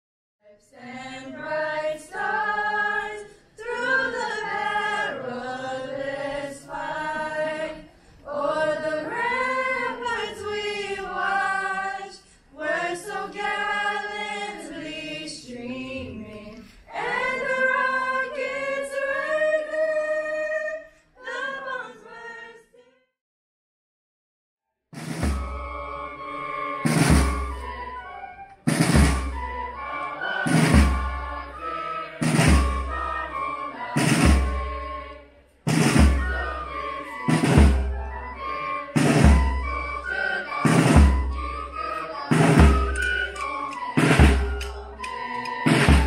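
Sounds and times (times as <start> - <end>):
choir singing an anthem: 0.6 - 22.7, 25.0 - 46.0.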